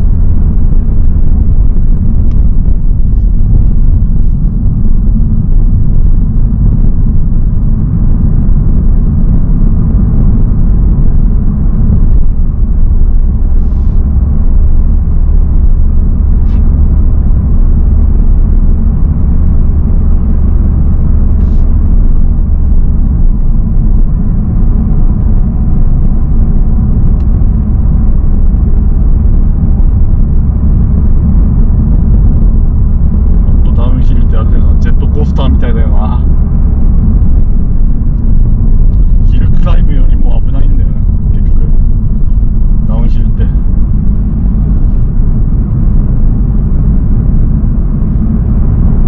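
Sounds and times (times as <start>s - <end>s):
car engine and tyre rumble: 0.0s - 49.0s
deeper hum: 0.0s - 49.0s.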